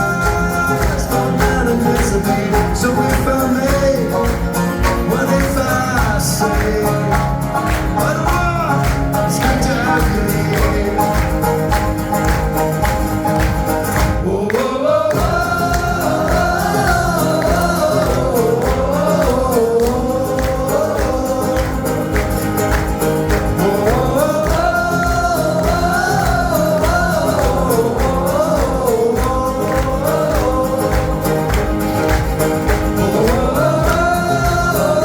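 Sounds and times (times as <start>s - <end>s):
person singing wordless melody: 0.0s - 12.2s, 14.0s - 35.0s
live band music: 0.0s - 35.0s.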